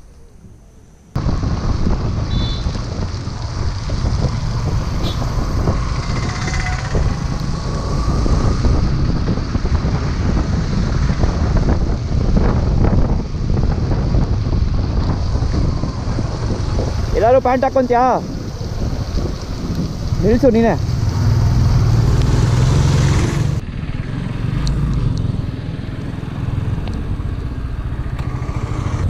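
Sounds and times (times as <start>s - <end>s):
wind buffeting microphone: 0.3s - 29.0s
tyres on wet road: 1.1s - 11.5s, 13.3s - 29.0s
motorcycle engine: 1.2s - 29.0s.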